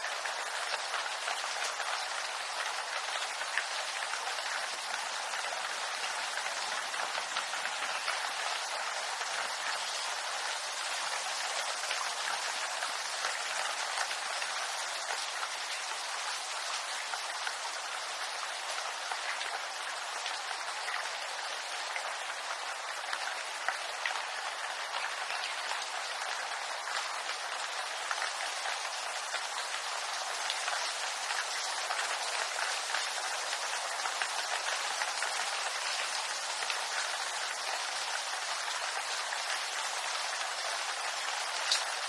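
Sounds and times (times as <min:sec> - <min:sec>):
rain falling on leaves: 0:00.0 - 0:42.0.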